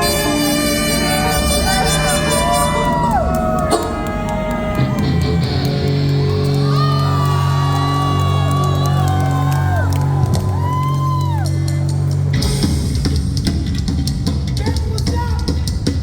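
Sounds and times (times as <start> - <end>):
drums: 0.0 - 16.0
punk band playing loud: 0.0 - 16.0.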